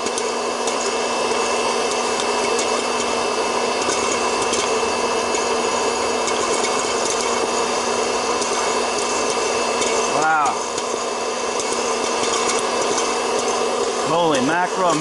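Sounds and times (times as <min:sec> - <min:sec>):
fan motor whirring hum: 0:00.0 - 0:15.0
popcorn kernels popping: 0:00.0 - 0:15.0.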